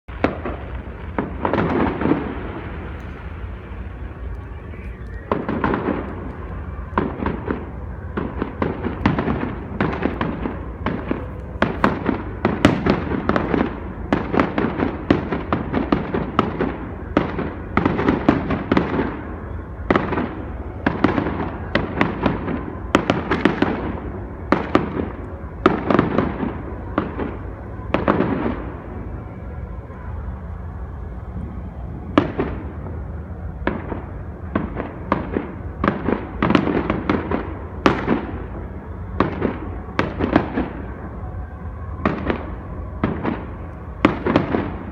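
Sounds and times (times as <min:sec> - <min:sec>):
fireworks bangs and crackles: 0:00.1 - 0:44.9.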